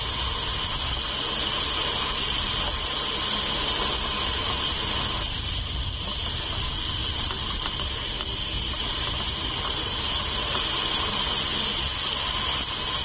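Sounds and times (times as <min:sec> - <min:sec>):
high-pitched insect chorus: 0:00.0 - 0:13.0
wind rumble on microphone: 0:00.0 - 0:13.0.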